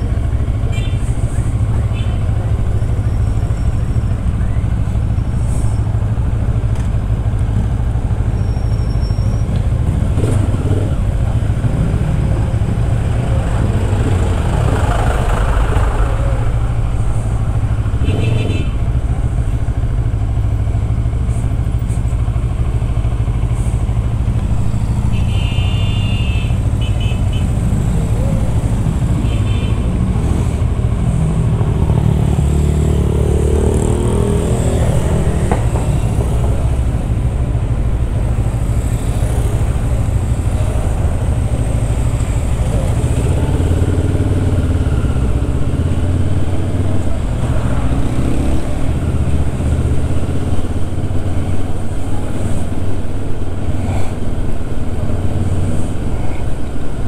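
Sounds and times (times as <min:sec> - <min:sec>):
motorcycle engine running: 0:00.0 - 0:55.3.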